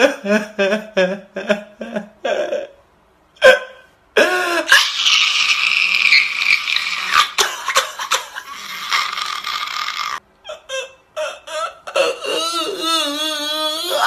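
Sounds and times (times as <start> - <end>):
man wailing and crying: 0.0 - 2.8, 3.4 - 14.0.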